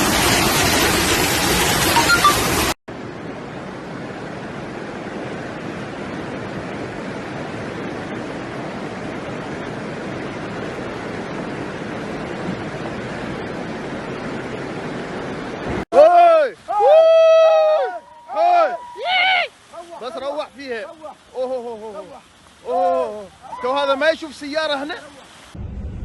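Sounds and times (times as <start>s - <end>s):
floodwater rushing: 0.0s - 25.6s.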